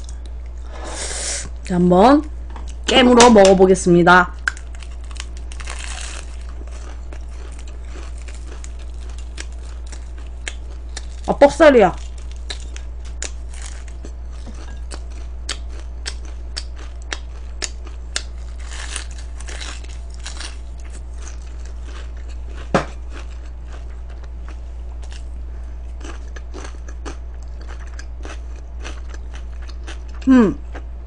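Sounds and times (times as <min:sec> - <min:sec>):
low hum: 0:00.0 - 0:31.0
crunching fried chicken: 0:04.4 - 0:30.9.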